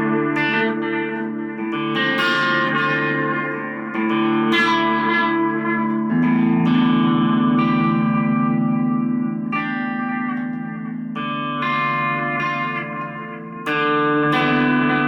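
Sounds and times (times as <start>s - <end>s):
guitar played through effects: 0.0s - 15.0s.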